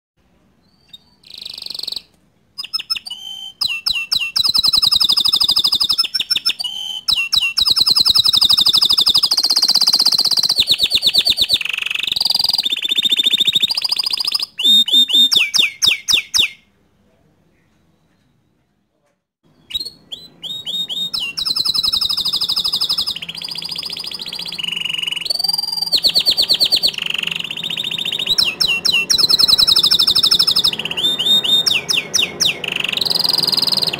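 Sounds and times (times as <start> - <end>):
canary singing trills: 0.6 - 16.8, 19.5 - 33.9.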